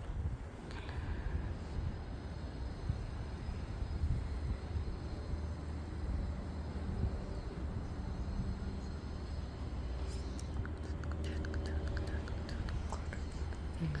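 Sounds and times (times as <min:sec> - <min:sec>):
distant propeller plane drone: 0:00.0 - 0:14.0.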